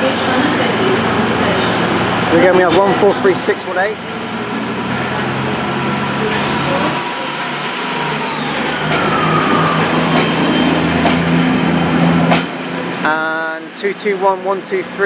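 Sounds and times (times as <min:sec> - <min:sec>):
diesel train engines under power: 0:00.0 - 0:15.0
train whine: 0:00.0 - 0:15.0.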